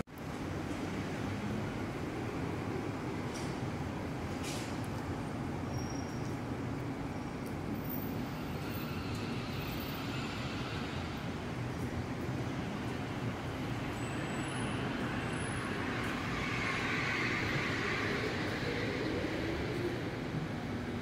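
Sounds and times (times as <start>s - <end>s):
city road traffic rumble: 0.0s - 21.0s.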